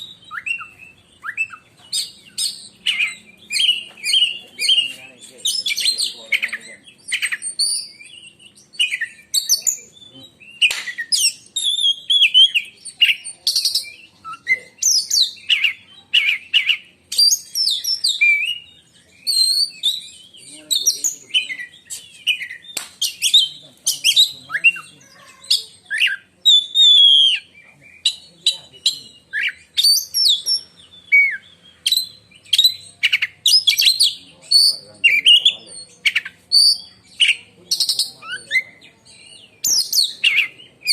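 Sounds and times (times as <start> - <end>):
bird singing shrill varied song: 0.0 - 40.9.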